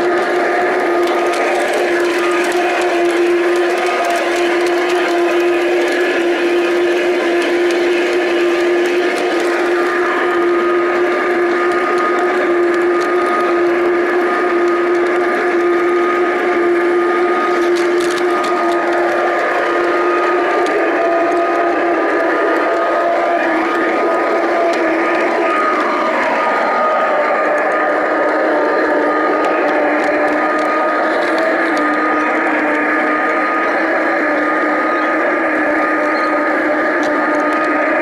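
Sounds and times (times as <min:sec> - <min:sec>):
model train running on track: 0:00.0 - 0:38.0.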